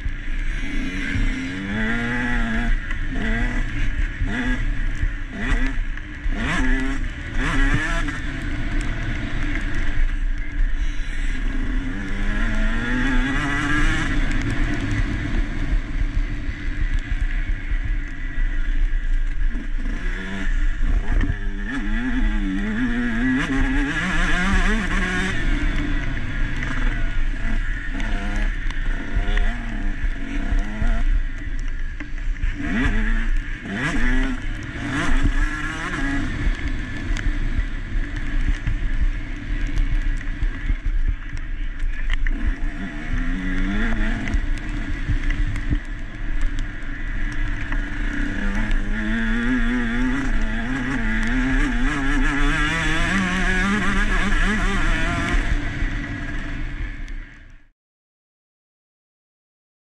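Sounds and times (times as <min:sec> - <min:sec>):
motocross engine revving: 0:00.3 - 0:31.5, 0:32.3 - 0:57.3.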